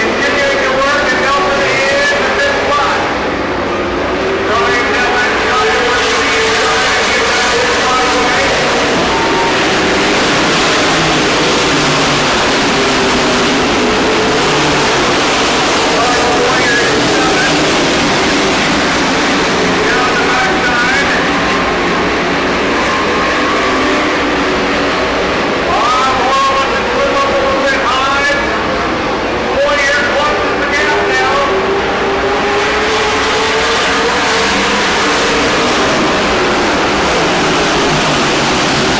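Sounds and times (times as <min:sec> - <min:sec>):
racing truck engines droning: 0:00.0 - 0:38.9.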